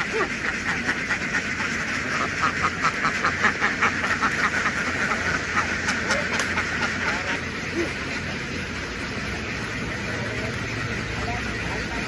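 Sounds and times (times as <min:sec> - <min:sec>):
ducks quacking: 0:00.0 - 0:12.0
low engine hum: 0:00.0 - 0:12.0.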